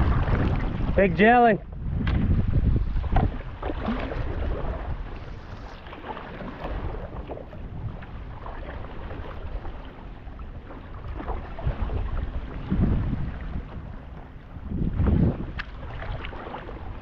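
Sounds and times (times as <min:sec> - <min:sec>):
paddle strokes splashing: 0:00.0 - 0:17.0
wind noise on microphone: 0:00.0 - 0:17.0.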